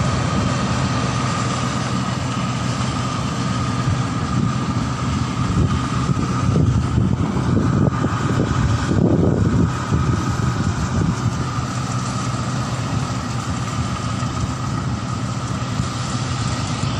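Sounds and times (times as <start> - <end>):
combine harvester engine running: 0.0 - 16.9
constant whine: 0.0 - 16.9.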